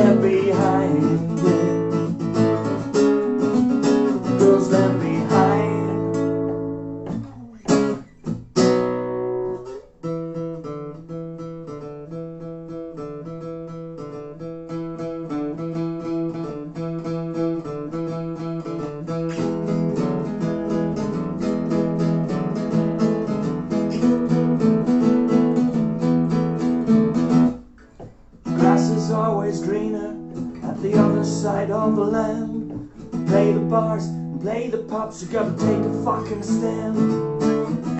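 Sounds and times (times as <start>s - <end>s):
acoustic guitars playing: 0.0s - 37.9s.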